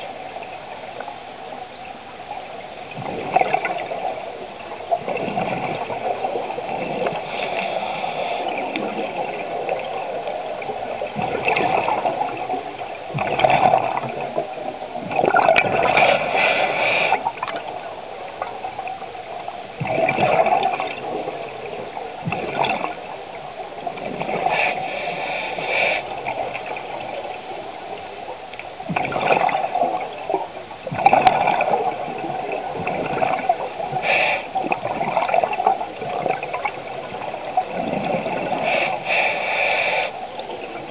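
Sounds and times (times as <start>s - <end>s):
exhaled bubbles underwater: 0.0s - 39.4s, 40.0s - 40.9s
steady underwater rush: 0.0s - 40.9s.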